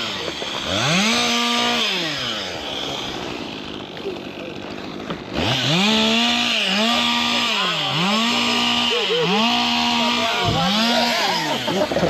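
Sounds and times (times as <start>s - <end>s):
chainsaw running at high revs: 0.0s - 12.0s.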